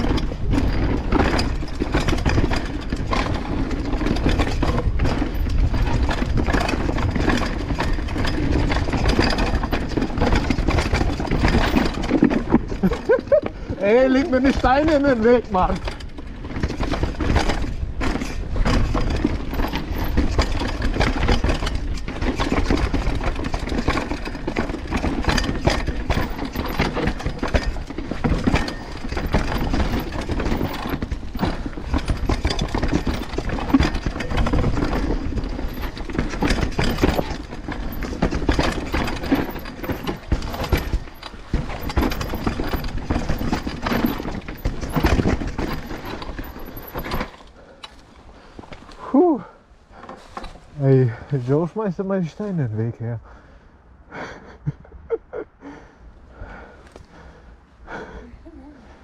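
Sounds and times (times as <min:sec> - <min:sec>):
bike chain rattling: 0:00.0 - 0:51.4
bike clattering: 0:00.0 - 0:52.5, 0:56.4 - 0:58.2
bike tyres rumbling over stones: 0:00.0 - 0:53.6.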